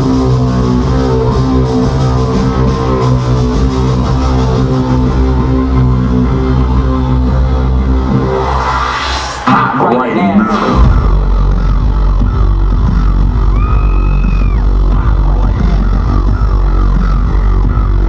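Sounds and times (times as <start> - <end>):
electronic bass music: 0.0 - 18.0.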